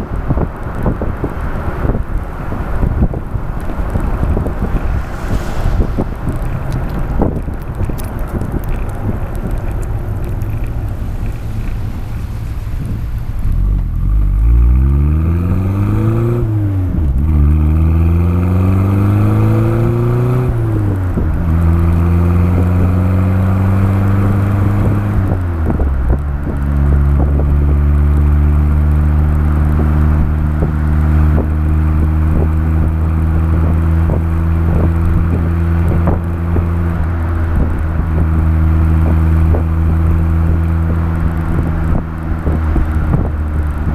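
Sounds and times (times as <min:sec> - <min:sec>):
car exhaust accelerating: 0:00.0 - 0:43.9.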